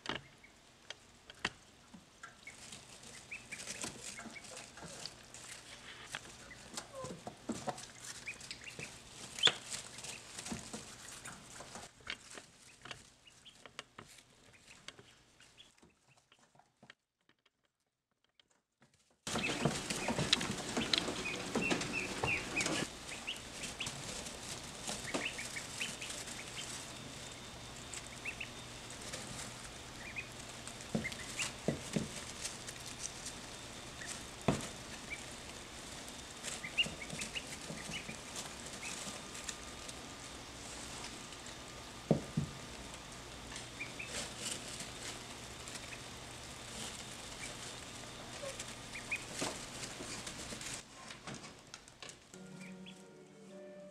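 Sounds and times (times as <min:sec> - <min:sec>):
duckling peeping: 0:00.1 - 0:00.6, 0:01.3 - 0:16.5, 0:19.3 - 0:42.3, 0:42.9 - 0:50.8, 0:52.4 - 0:53.1.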